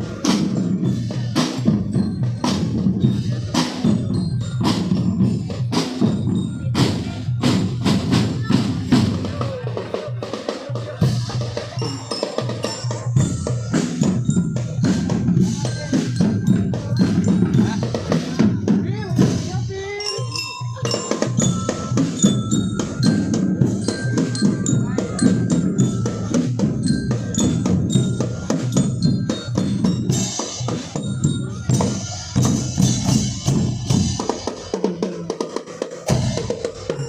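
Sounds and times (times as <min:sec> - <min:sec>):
high melody: 0:00.0 - 0:35.4
bass and snare drum strokes: 0:00.0 - 0:37.0.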